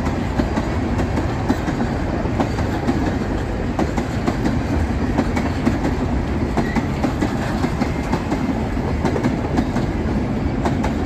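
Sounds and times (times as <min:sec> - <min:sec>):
train rumble: 0:00.0 - 0:11.0
wheels clicking over rail joints: 0:00.0 - 0:11.0.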